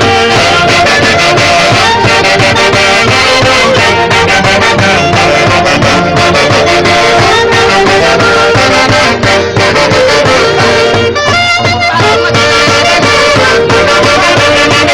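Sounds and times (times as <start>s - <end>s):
quick drum beat: 0.0s - 14.9s
wind instruments melody: 0.0s - 14.9s.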